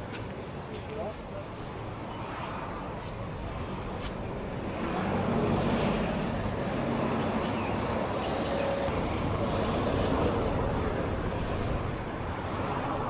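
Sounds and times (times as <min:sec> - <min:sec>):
outdoor street noise: 0:00.0 - 0:13.0.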